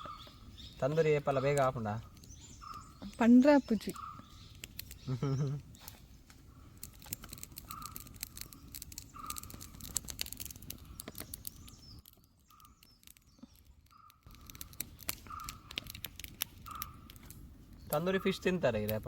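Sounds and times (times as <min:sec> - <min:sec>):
bird calling: 0:00.0 - 0:19.0
campfire crackling and popping: 0:00.0 - 0:19.0.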